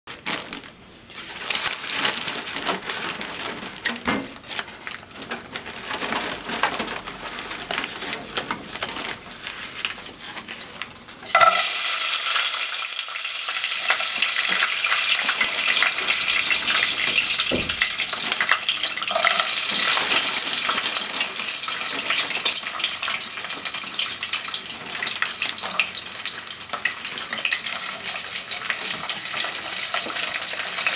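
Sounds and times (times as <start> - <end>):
newspaper crinkling and rustling: 0.1 - 11.8, 13.5 - 30.9.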